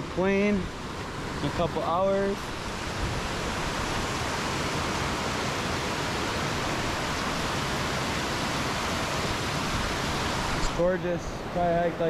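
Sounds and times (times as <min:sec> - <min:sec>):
fast-flowing stream rushing: 0:00.0 - 0:12.0.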